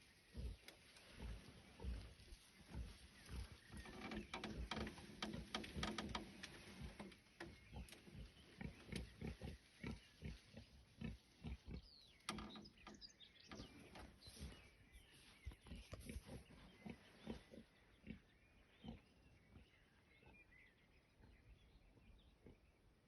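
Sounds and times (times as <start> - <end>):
wild boar grunting: 0.1 - 22.8.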